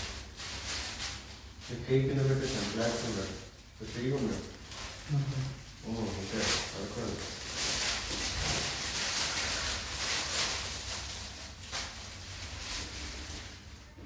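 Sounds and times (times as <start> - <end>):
plastic and gauze rustling: 0.0 - 14.0.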